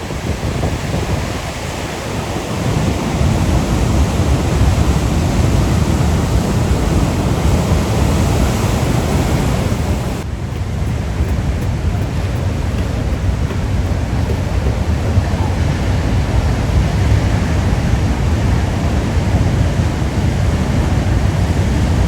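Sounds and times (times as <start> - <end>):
wind rumbling on microphone: 0.0 - 22.0
waves breaking on rocks: 0.1 - 18.0.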